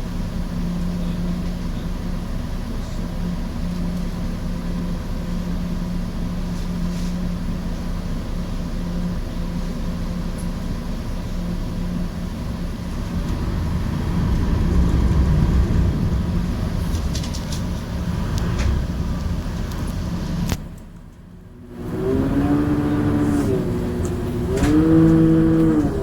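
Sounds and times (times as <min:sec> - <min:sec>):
ferry engine humming: 0:00.0 - 0:26.0.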